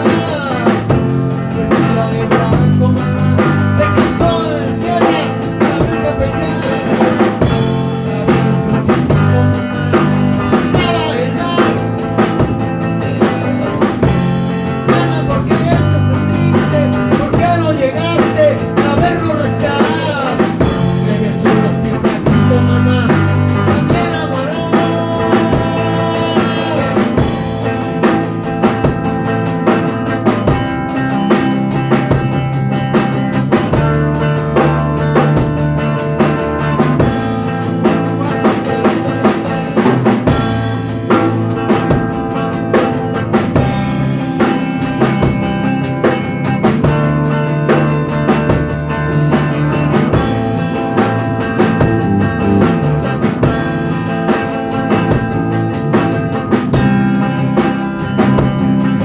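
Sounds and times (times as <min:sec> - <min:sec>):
band music: 0:00.0 - 0:59.0
drum kit beat: 0:00.0 - 0:59.0.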